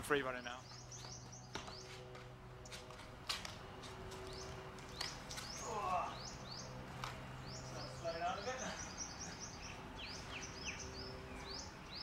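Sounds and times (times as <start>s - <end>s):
small birds chirping: 0.2s - 2.9s, 4.1s - 12.0s.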